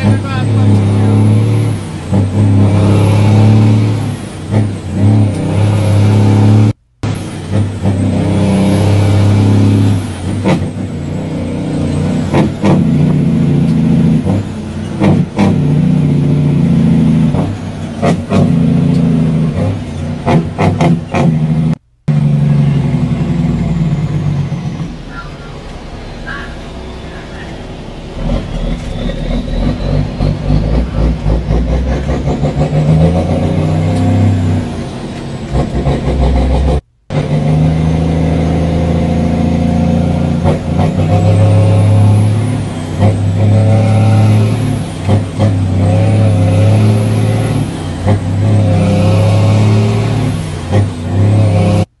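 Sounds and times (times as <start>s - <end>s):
truck diesel engine under load: 0.0s - 52.0s.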